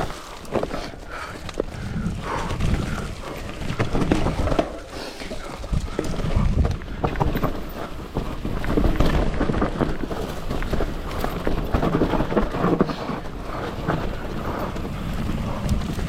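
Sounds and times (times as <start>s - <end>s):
bike clattering over roots and rocks: 0.0s - 16.0s
wind rumble on microphone: 0.9s - 16.0s.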